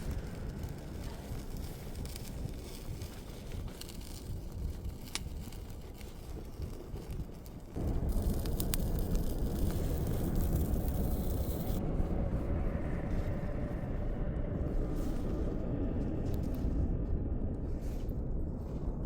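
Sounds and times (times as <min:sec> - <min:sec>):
gusting blizzard wind: 0:00.0 - 0:19.0.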